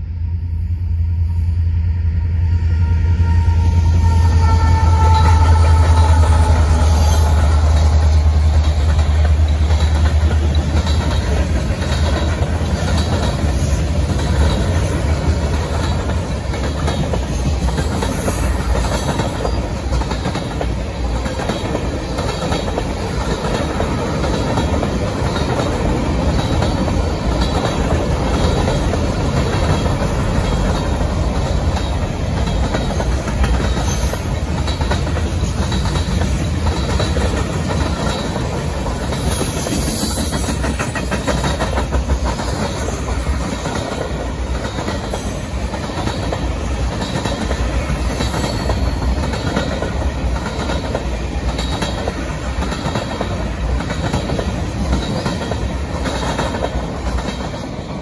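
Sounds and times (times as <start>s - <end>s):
diesel locomotive rumble: 0.0s - 58.0s
train wheels clickety-clack: 2.8s - 58.0s.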